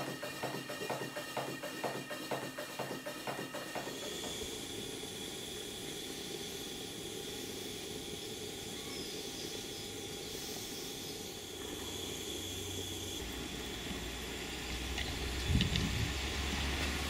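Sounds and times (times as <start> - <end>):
steam boiler hissing: 0.0 - 17.0.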